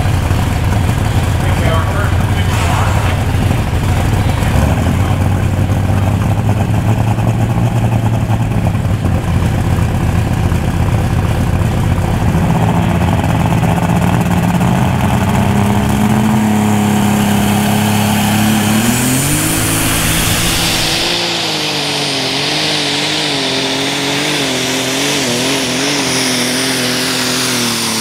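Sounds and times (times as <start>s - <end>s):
tractor engine running loud: 0.0s - 28.0s.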